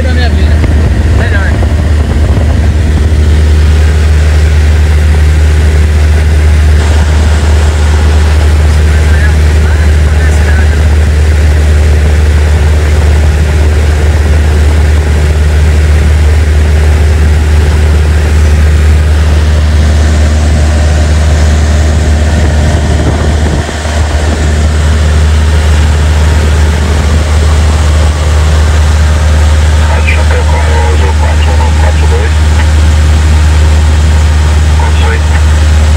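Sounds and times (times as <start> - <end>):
airplane engine and propeller drone: 0.0 - 35.9.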